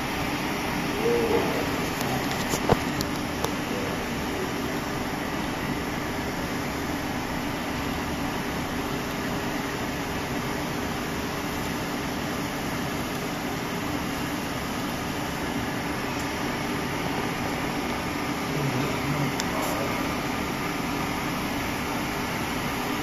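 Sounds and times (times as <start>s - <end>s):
machinery hum and fan noise: 0.0s - 23.0s.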